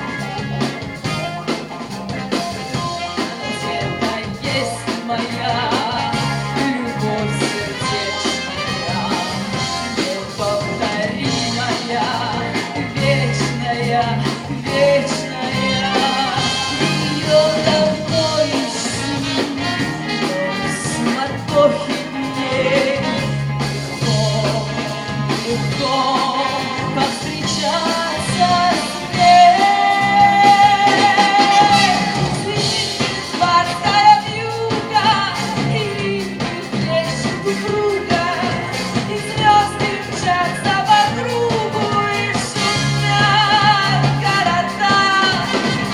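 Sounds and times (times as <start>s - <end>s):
bass guitar: 0.0s - 45.9s
drums: 0.0s - 45.9s
guitar: 0.0s - 45.9s.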